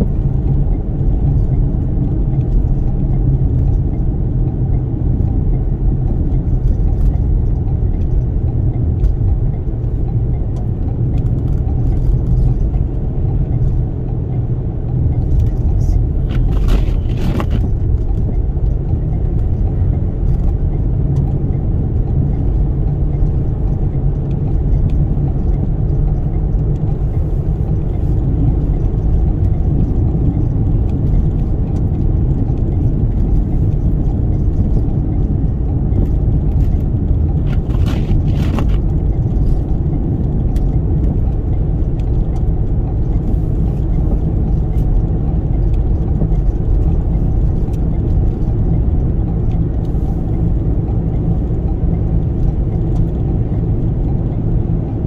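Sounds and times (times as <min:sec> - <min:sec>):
vehicle cabin rumble: 0:00.0 - 0:55.0.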